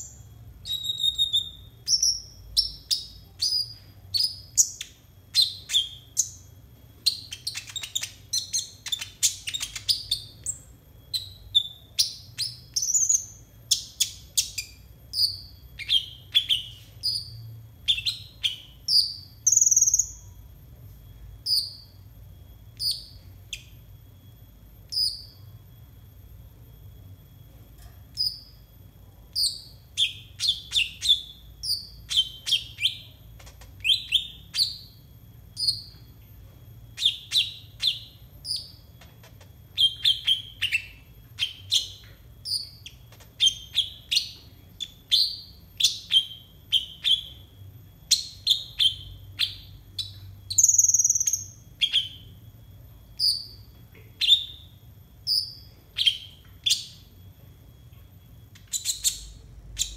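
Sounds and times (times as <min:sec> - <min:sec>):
buzzy bird trill: 0:00.0 - 0:20.6, 0:24.5 - 0:25.8, 0:28.0 - 0:57.2, 0:57.9 - 0:59.9
sunbird chirping: 0:00.0 - 0:25.6, 0:28.1 - 0:57.2, 0:57.8 - 0:59.9.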